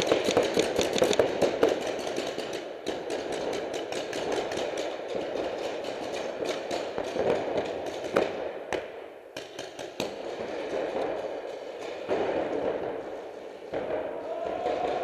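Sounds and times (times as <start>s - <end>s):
paintball markers firing: 0.0s - 14.0s.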